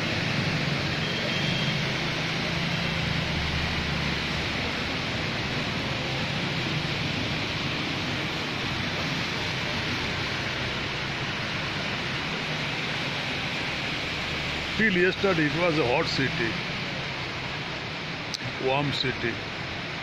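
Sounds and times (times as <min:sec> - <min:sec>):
heavy rain on flooded street: 0:00.0 - 0:20.0.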